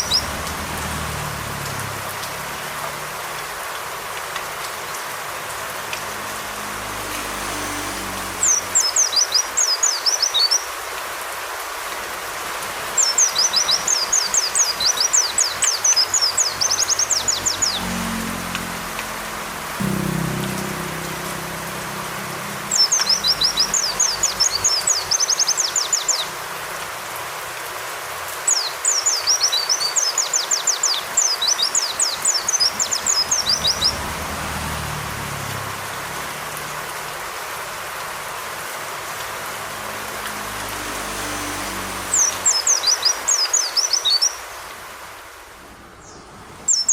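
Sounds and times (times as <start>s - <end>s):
rain hiss: 0.0s - 46.9s.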